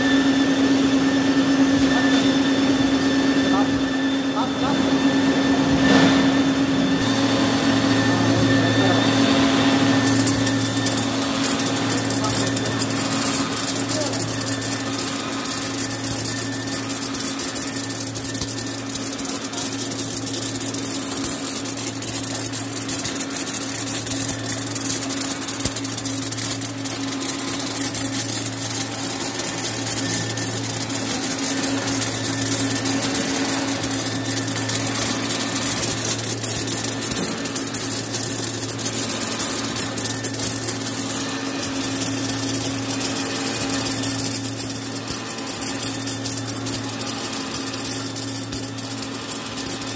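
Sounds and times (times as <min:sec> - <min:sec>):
sorting machine humming: 0:00.0 - 0:49.9.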